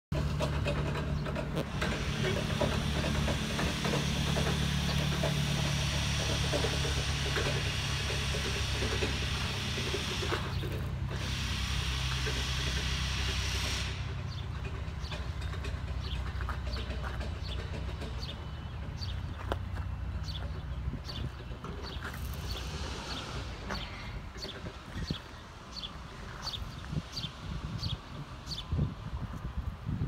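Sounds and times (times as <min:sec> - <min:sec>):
vehicle engine idling: 0:00.1 - 0:29.6.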